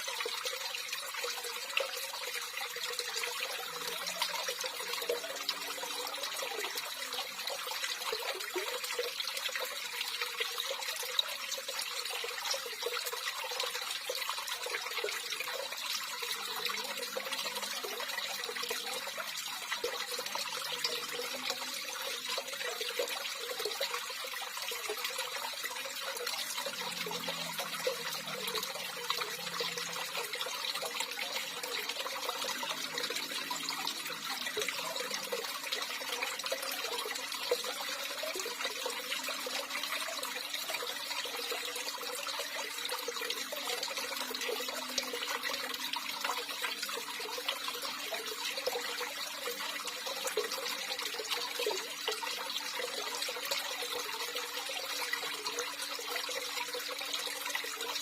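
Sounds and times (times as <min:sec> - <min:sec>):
running water trickling and splashing: 0:00.0 - 0:58.0.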